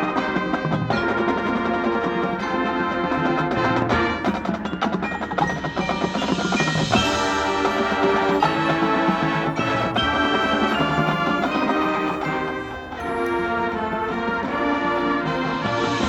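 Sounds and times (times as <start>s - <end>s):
bell-like mallet percussion: 0.0s - 16.0s
marching band playing: 0.0s - 16.0s.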